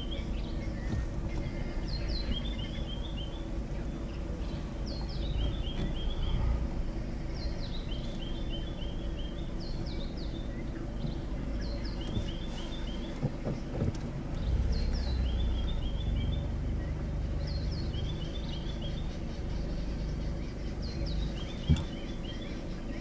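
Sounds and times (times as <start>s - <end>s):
low hum and rumble: 0.0s - 23.0s
songbird singing: 0.0s - 23.0s.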